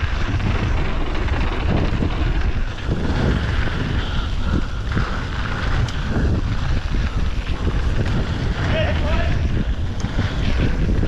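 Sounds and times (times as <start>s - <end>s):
bike tyres rolling on gravel: 0.0s - 11.0s
wind buffeting microphone: 0.0s - 11.0s.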